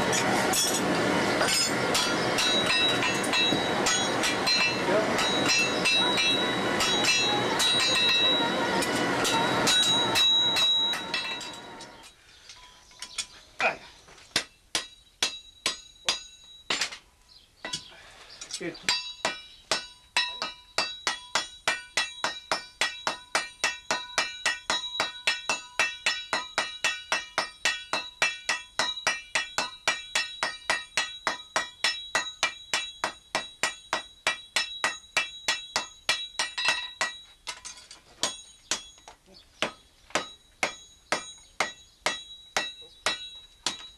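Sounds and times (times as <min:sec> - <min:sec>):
hammers striking iron on anvil: 0:00.0 - 0:12.0, 0:14.3 - 0:17.0, 0:18.9 - 0:43.9.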